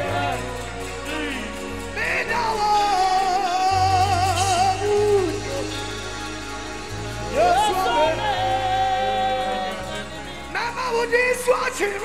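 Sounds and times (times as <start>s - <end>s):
band holding low chords: 0.0s - 12.0s.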